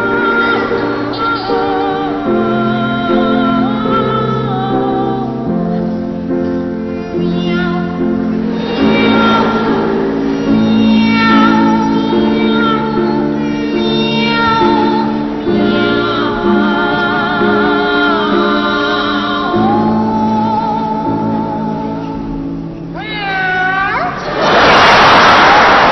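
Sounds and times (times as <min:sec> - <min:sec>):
held instrumental chords: 0:00.0 - 0:23.0.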